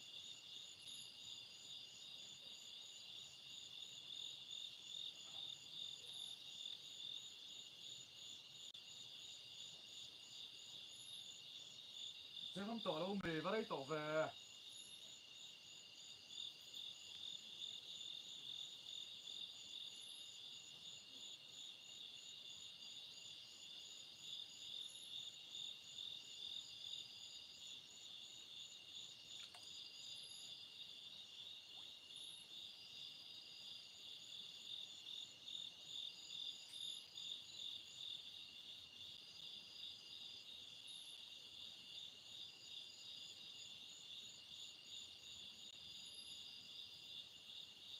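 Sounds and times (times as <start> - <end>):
crickets and insects trilling: 6.9 - 47.9.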